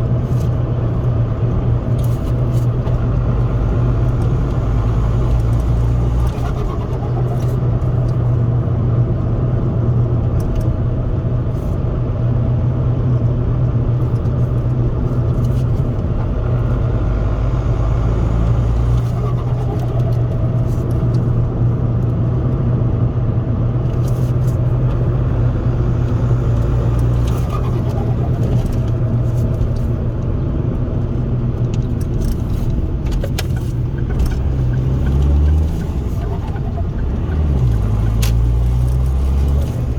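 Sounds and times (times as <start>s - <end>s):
car engine drone inside cabin: 0.0s - 39.9s
road noise: 0.0s - 39.9s.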